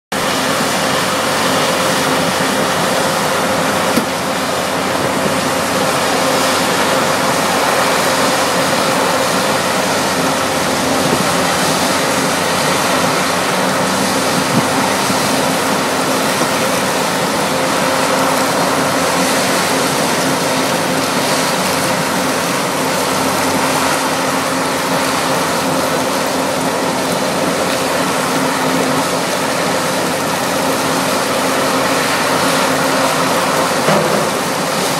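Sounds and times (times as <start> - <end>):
constant mechanical noise: 0.1 - 34.9
diesel engine hum: 0.1 - 34.9.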